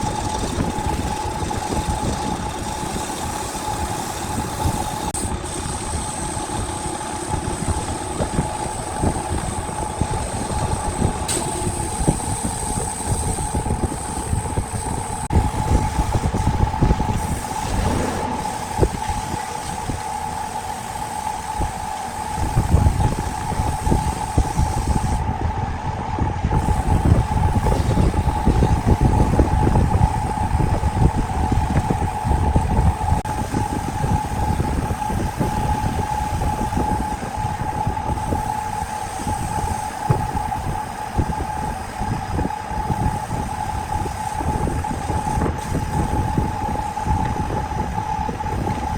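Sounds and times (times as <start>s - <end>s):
wood lathe running: 0.0s - 25.2s, 26.6s - 48.9s.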